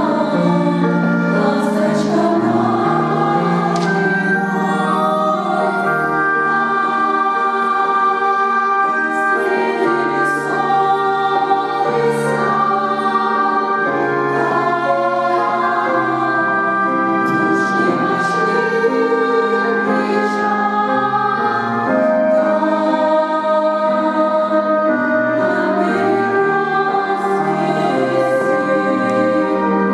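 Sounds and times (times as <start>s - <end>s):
church choir singing chords: 0.0s - 29.9s.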